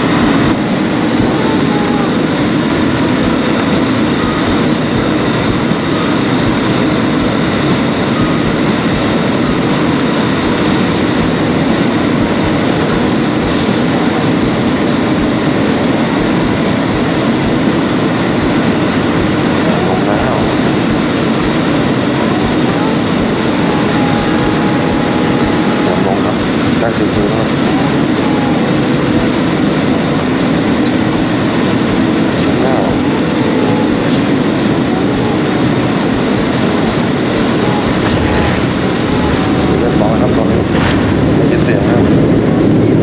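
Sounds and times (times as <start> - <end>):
airliner cabin noise: 0.0 - 43.0.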